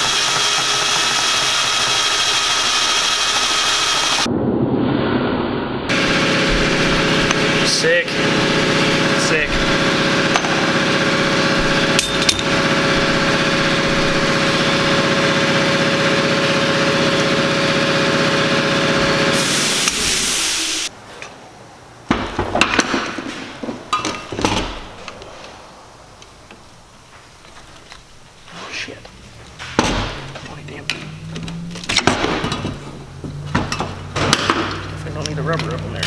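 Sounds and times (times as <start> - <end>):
machine hum: 0.0 - 21.0, 25.8 - 35.5.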